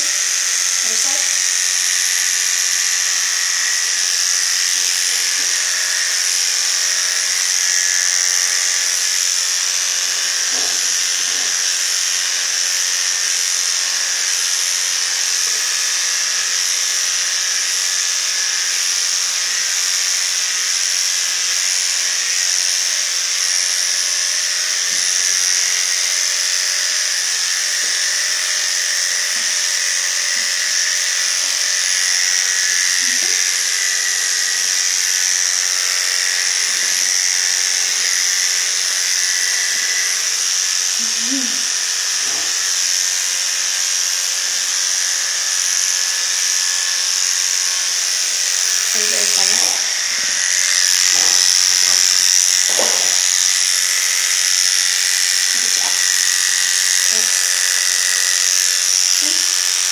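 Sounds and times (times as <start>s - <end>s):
electric clippers buzzing: 0.0s - 59.9s.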